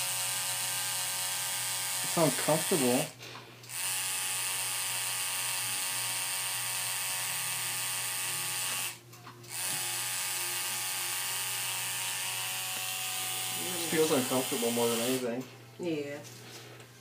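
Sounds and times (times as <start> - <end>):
tattoo machine buzzing: 0.0 - 15.2.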